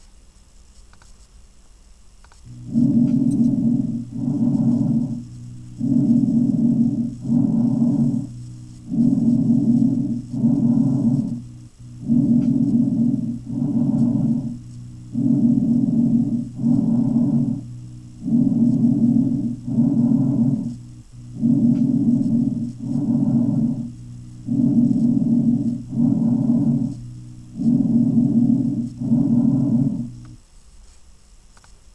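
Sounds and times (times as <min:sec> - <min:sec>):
bronchial breathing: 0:02.4 - 0:30.4.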